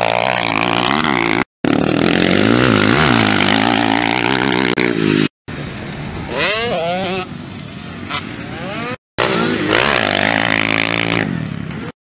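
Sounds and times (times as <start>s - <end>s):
motocross bike engine revving: 0.0s - 11.9s.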